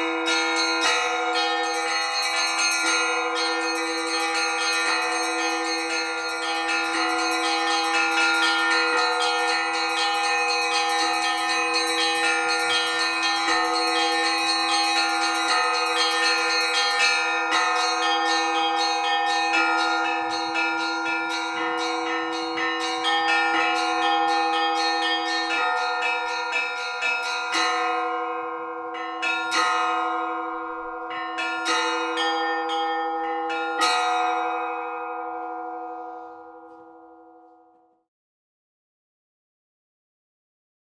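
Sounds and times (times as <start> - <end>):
church bells pealing: 0.0 - 37.2.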